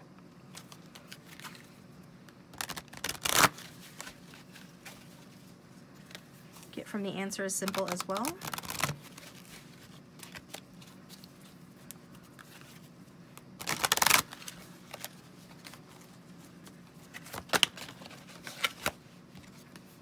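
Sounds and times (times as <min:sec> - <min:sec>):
faint room hum: 0:00.0 - 0:20.0
cards shuffling: 0:00.5 - 0:01.8, 0:02.5 - 0:06.7, 0:07.6 - 0:20.0.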